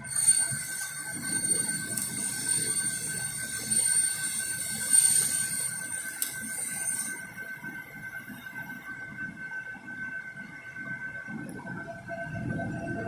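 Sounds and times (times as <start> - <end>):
laser machine high-pitched whine: 0.0 - 13.0
low machine tone and rumble: 0.0 - 13.0.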